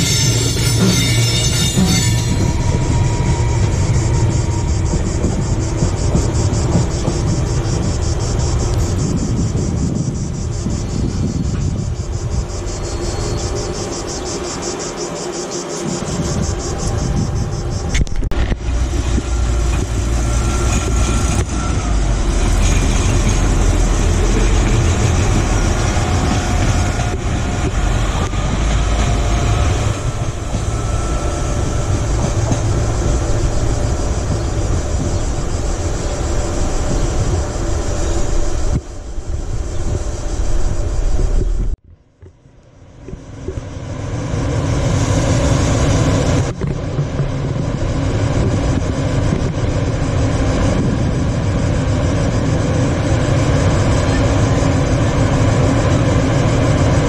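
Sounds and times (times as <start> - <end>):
station ambience: 0.0 - 57.0
train rumbling past: 0.0 - 57.0.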